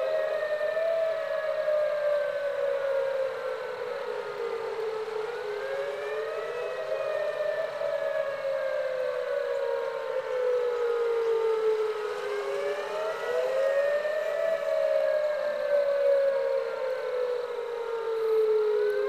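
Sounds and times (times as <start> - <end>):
warning siren wailing: 0.0 - 19.0.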